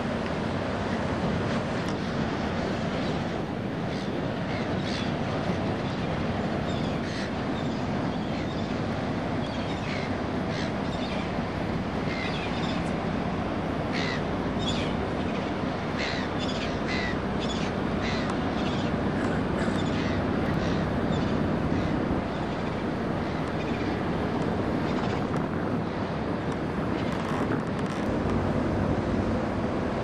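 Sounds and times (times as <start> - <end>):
boat engine rumbling: 0.0 - 30.0
water noise: 0.0 - 30.0
wind: 0.0 - 30.0.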